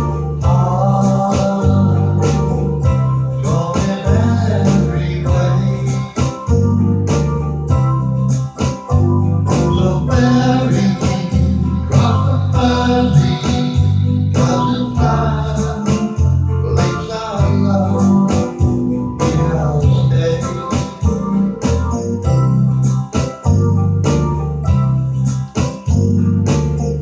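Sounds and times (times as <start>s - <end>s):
electronic keyboard music: 0.0s - 27.0s.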